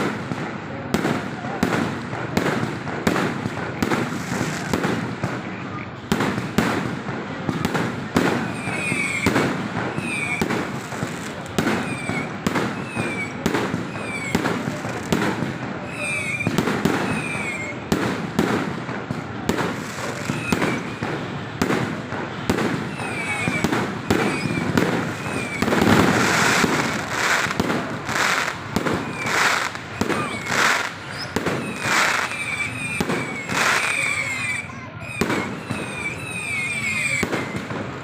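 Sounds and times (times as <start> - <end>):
fireworks bangs and crackles: 0.0 - 38.0
fireworks falling whistles: 0.0 - 38.0.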